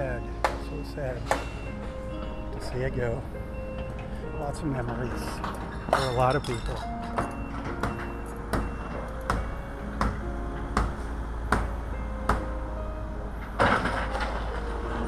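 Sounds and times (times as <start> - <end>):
background music with steady beat: 0.0 - 13.6.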